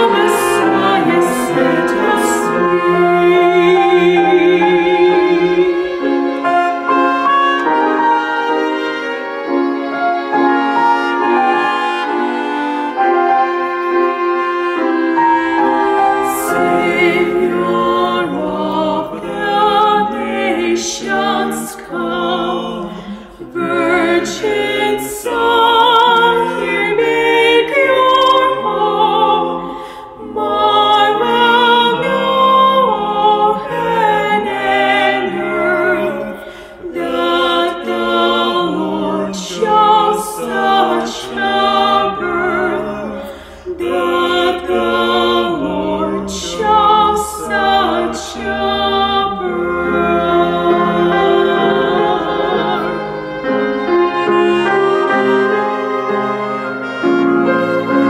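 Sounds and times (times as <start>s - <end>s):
vocal quartet singing in harmony: 0.0s - 58.0s.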